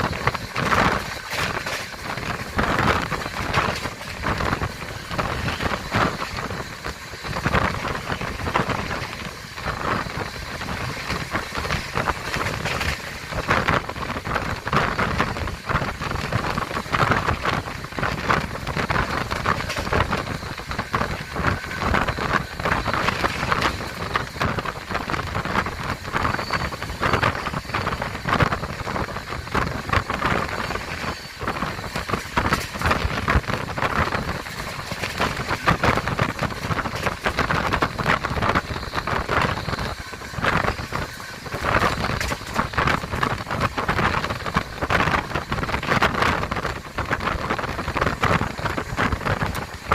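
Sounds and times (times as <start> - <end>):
train carriage rattling: 0.0 - 49.9.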